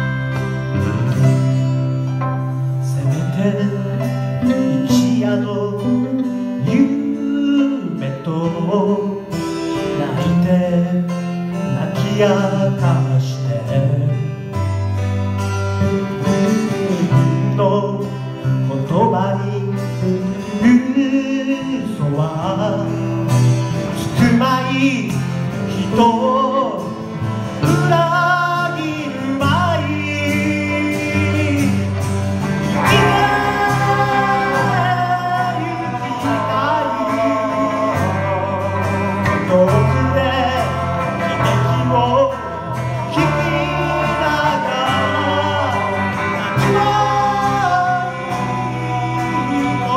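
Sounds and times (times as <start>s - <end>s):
electric bass: 0.0s - 7.3s, 9.2s - 49.9s
acoustic guitar: 0.0s - 49.9s
electric guitar: 0.0s - 49.9s
grand piano: 0.0s - 49.9s
person singing lead vocal: 2.4s - 14.8s, 15.8s - 49.9s.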